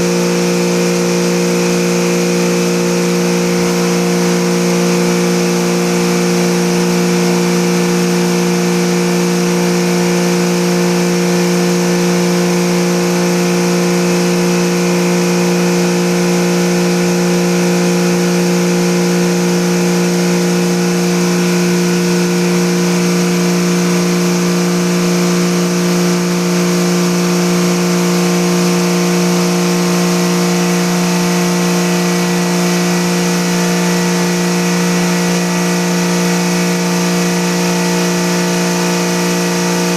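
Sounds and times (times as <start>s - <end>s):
cleaning machine motor hum: 0.0s - 39.9s.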